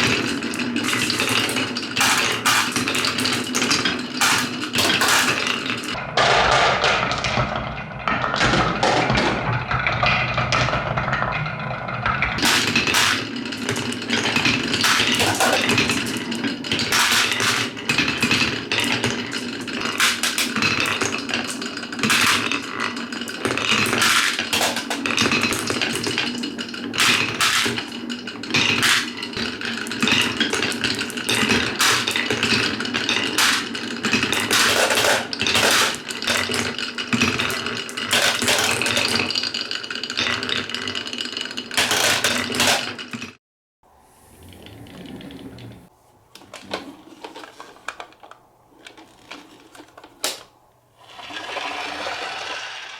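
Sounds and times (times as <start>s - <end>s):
marbles rolling down wooden tracks: 0.0s - 43.4s, 44.5s - 45.9s, 46.5s - 52.9s.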